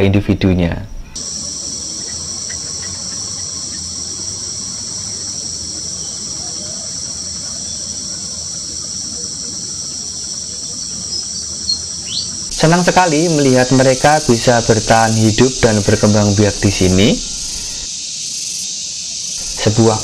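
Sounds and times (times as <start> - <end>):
insect chorus drone: 0.1 - 20.0.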